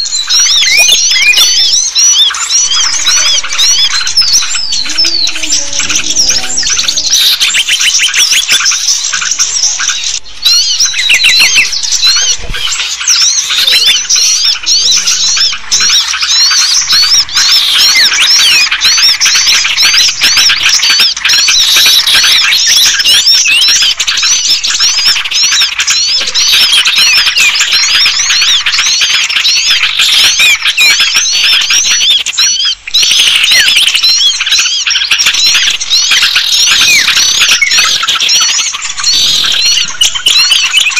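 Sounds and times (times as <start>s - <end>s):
chorus of small birds chirping: 0.0s - 40.9s.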